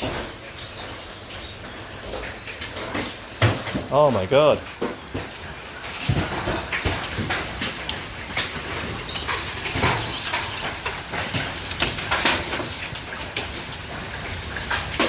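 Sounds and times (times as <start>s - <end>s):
hail clattering on hard surfaces: 0.0s - 15.0s.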